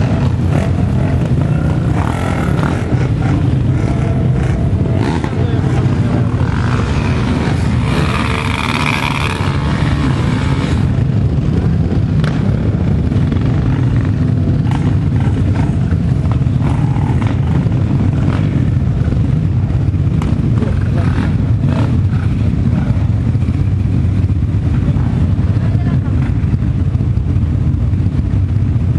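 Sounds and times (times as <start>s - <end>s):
people's voices: 0.0s - 27.4s
off-road motorcycle engines running: 0.0s - 28.9s.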